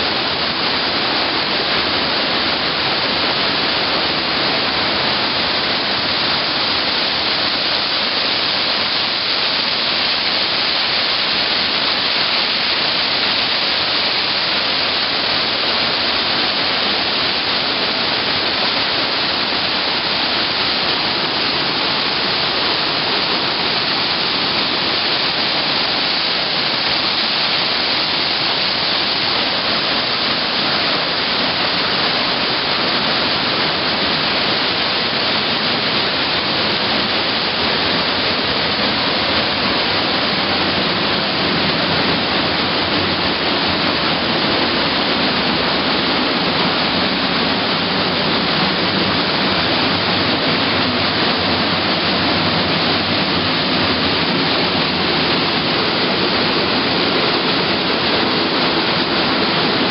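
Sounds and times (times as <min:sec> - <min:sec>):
waterfall and stream over rocks: 0:00.0 - 0:59.9.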